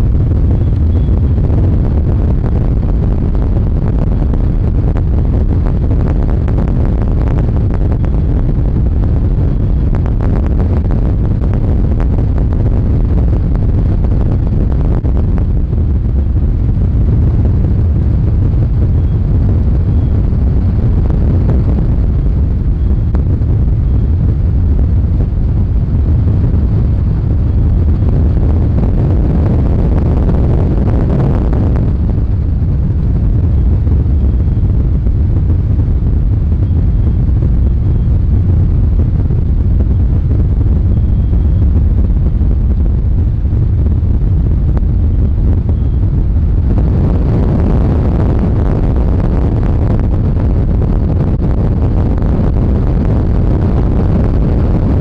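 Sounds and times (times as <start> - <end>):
hull on water: 0.0 - 55.0
wind buffeting microphone: 0.0 - 55.0.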